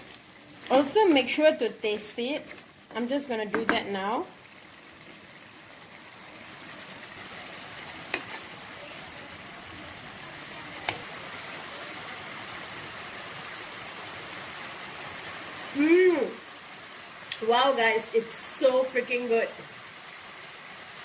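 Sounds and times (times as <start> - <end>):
chicken sizzling in a pot: 0.0 - 21.0.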